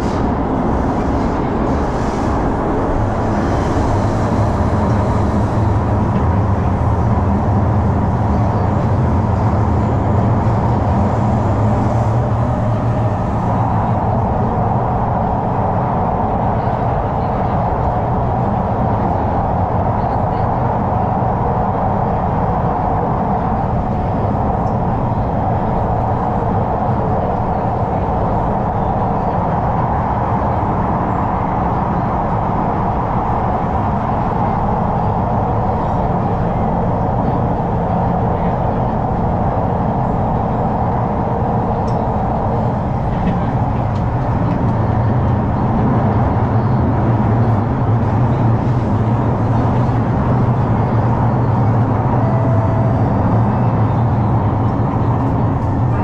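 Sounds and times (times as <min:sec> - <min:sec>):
train rumble and hum: 0:00.0 - 0:56.0.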